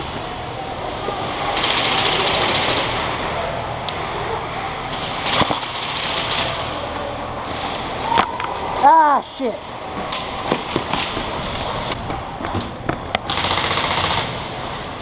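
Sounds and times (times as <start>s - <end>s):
background hubbub: 0.0s - 15.0s.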